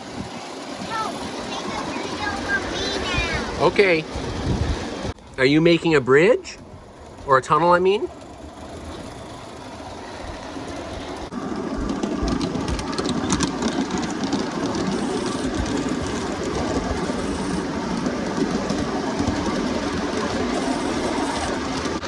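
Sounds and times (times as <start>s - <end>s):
model train rolling rumble: 0.0s - 22.0s
wheels clicking over rail joints: 0.0s - 22.0s.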